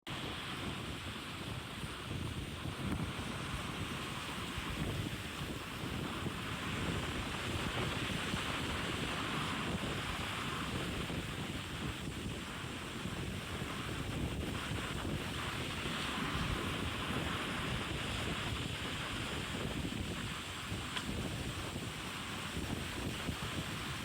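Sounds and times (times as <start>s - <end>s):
rushing sea water: 0.1s - 24.0s
wind buffeting microphone: 0.1s - 24.0s.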